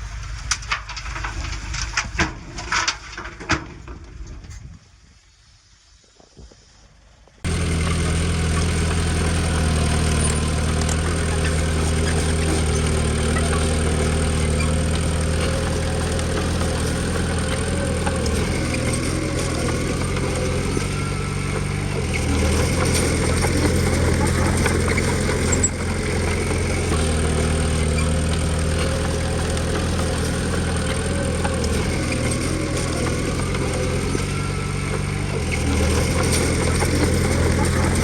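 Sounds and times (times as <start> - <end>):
heavy diesel engine running: 0.0 - 3.2, 7.4 - 38.0.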